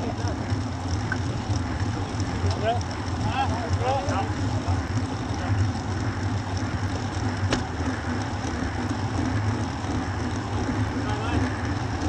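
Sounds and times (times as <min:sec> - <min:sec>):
bike tyre road noise: 0:00.0 - 0:12.0.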